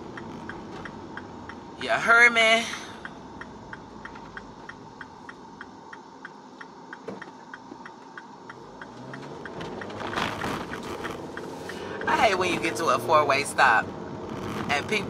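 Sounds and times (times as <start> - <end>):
car engine hum: 0.0 - 15.0
car turn signal ticking: 0.0 - 15.0
road noise: 0.0 - 15.0.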